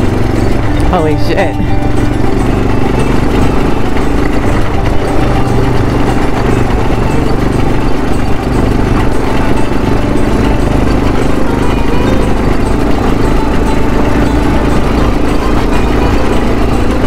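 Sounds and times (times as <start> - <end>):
quad bike engine running hard: 0.0 - 17.0.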